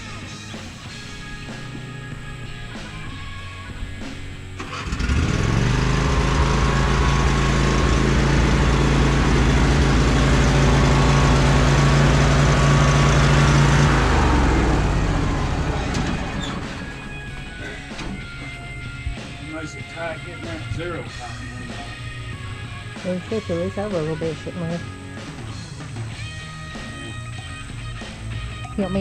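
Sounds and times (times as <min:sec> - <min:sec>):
background music: 0:00.0 - 0:29.0
lawn mower engine running: 0:00.0 - 0:29.0.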